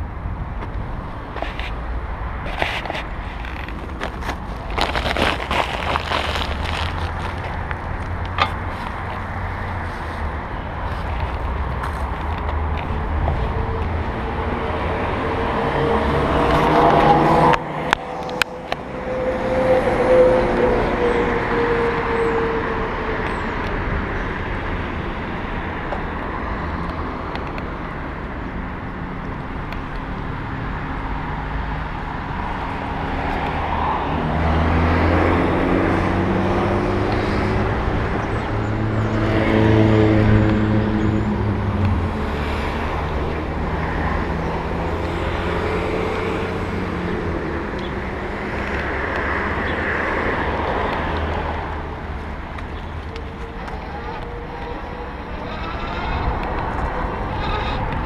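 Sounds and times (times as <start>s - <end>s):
motor vehicles passing: 0.0s - 58.0s
road noise rumble: 0.0s - 58.0s.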